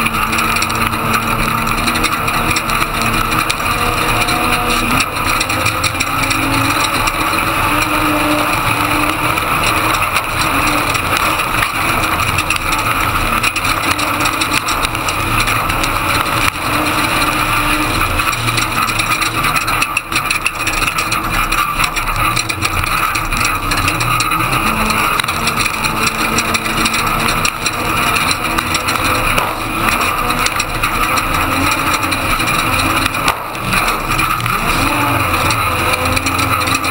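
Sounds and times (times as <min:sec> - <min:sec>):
knocks and rattles: 0:00.0 - 0:36.9
truck engine revving: 0:00.0 - 0:36.9.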